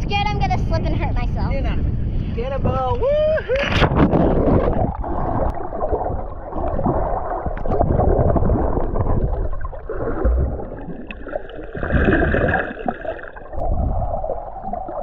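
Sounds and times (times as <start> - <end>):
water sloshing and gurgling: 0.0 - 15.0
choppy water splashing: 1.8 - 15.0.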